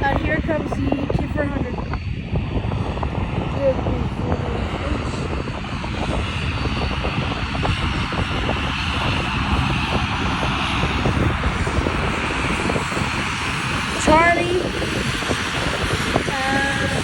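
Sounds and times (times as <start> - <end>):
high engine whine: 0.0 - 17.0
turboprop plane passing: 0.0 - 17.0.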